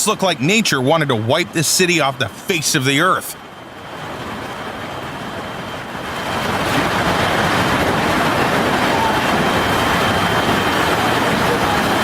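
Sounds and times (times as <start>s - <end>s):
storm rushing noise: 1.5s - 12.0s.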